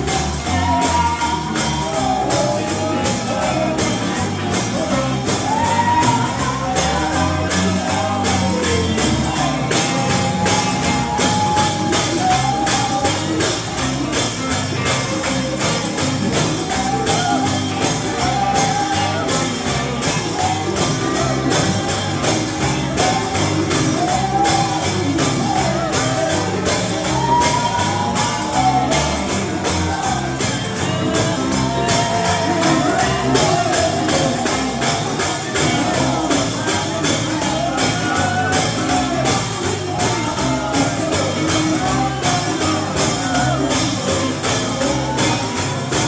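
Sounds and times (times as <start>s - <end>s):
live band playing: 0.0s - 46.0s
person singing gospel: 0.0s - 46.0s
tambourine beat: 0.0s - 46.0s.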